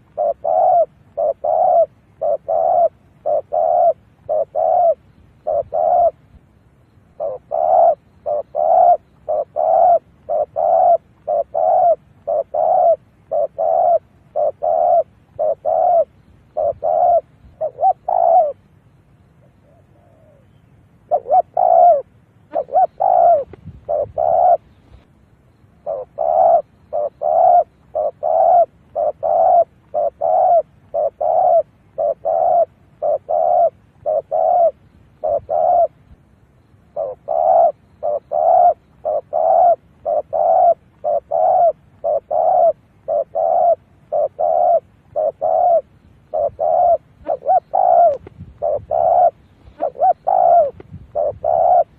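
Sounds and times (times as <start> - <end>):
dove cooing: 0.0 - 18.7, 19.3 - 25.1, 25.8 - 51.9.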